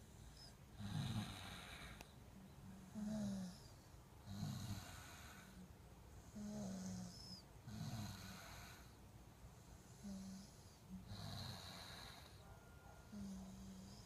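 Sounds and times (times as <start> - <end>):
person snoring softly: 0.0 - 9.0, 9.6 - 14.0.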